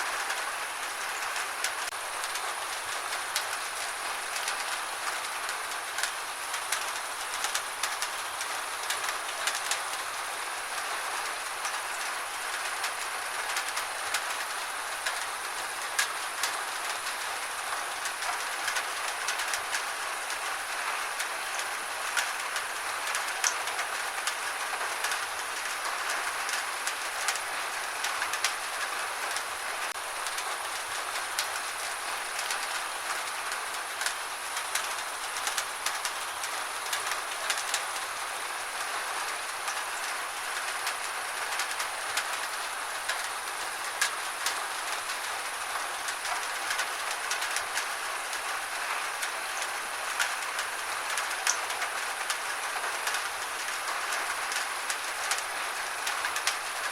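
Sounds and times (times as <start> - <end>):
rain hiss: 0.0 - 56.9
raindrops tapping on a surface: 0.1 - 56.9.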